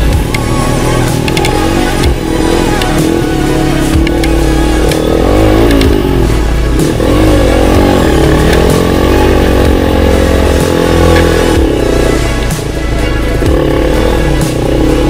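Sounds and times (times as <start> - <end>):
quad bike engine revving: 0.0 - 15.0.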